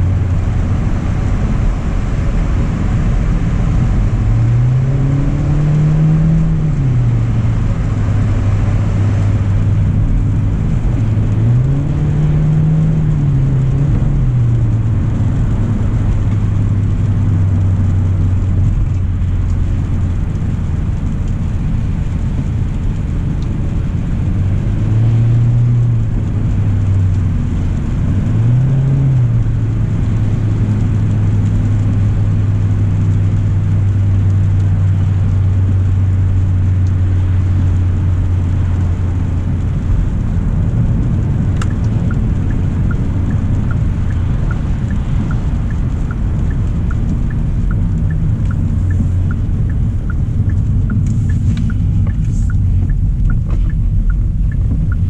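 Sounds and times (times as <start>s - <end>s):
car cabin hum and road noise: 0.0s - 55.0s
rain: 0.0s - 55.0s
turn signal ticking: 2.0s - 55.0s.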